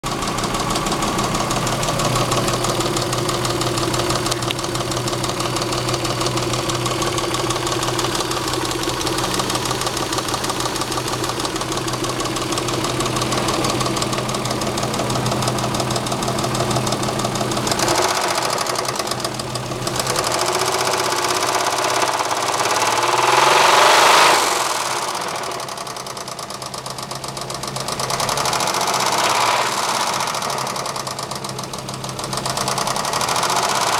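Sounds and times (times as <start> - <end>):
engine knocking and ticking: 0.0 - 33.9.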